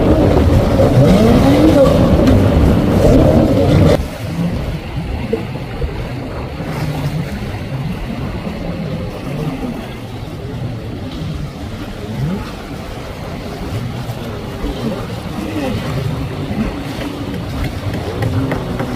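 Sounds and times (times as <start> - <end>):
jet ski engines revving: 0.0 - 18.9
rushing water: 0.0 - 18.9.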